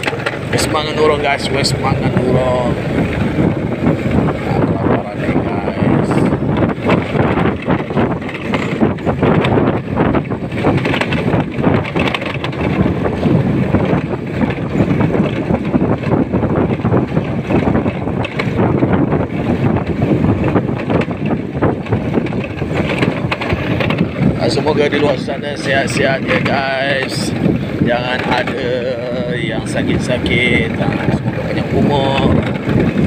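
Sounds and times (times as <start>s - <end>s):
motorcycle running: 0.0s - 33.0s
wind buffeting microphone: 0.0s - 33.0s.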